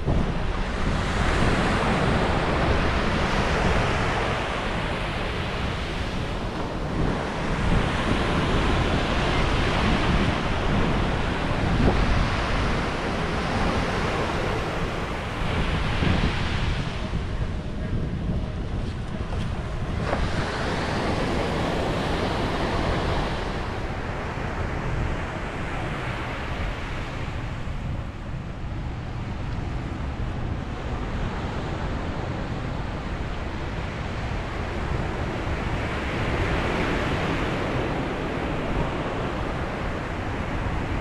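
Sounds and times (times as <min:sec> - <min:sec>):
sea waves breaking on a beach: 0:00.0 - 0:41.0
wind rumbling on microphone: 0:00.0 - 0:41.0.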